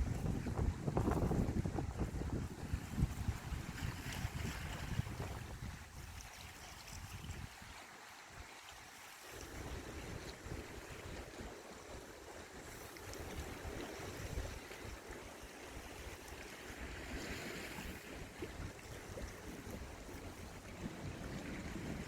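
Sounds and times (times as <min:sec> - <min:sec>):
wind buffeting microphone: 0:00.0 - 0:07.8, 0:09.4 - 0:22.0
sea water lapping: 0:00.0 - 0:22.0.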